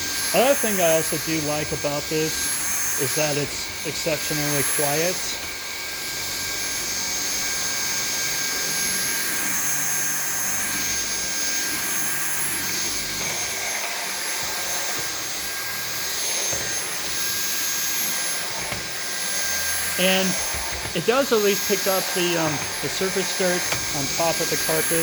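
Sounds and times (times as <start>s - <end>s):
vacuum cleaner on rug: 0.0s - 25.0s.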